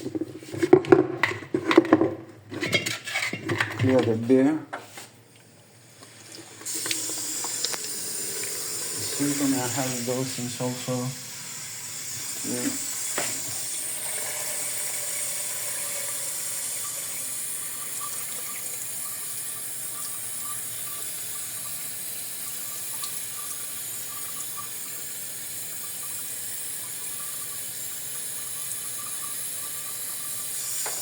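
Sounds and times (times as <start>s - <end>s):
water running from a tap: 5.9s - 31.0s.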